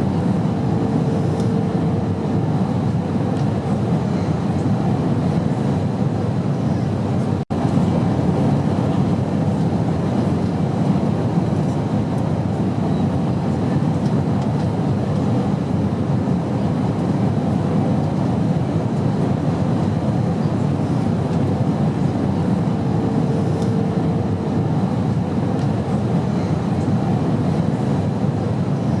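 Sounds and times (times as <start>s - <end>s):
airliner cabin engine rush: 0.0s - 29.0s.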